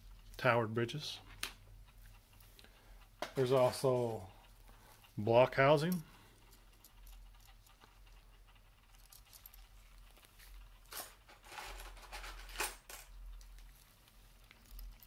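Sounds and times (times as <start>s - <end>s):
soft rustling of plastic models: 0.0s - 15.0s.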